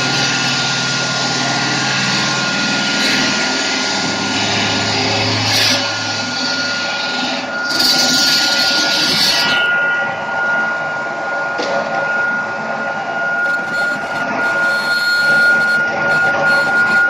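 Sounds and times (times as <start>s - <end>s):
stone-cutting saw whining: 0.0s - 17.0s.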